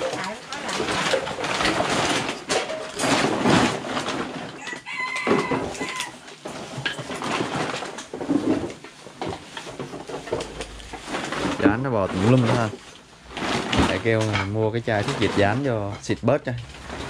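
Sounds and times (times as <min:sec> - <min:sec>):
plastic bags rustling: 0:00.0 - 0:17.0.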